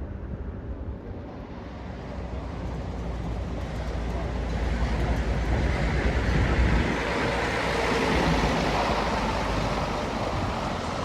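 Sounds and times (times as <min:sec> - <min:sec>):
heavy vehicle engine rumble: 0:00.0 - 0:11.0
tyre and road noise: 0:00.7 - 0:11.0.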